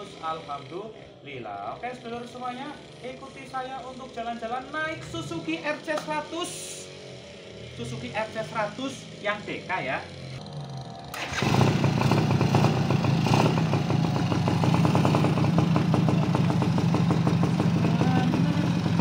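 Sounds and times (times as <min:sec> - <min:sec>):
two-stroke engine idling: 0:00.0 - 0:19.0.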